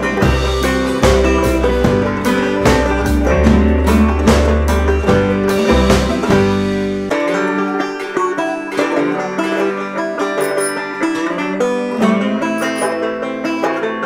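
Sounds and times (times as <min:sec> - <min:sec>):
bluegrass banjo and guitar music: 0:00.0 - 0:14.0.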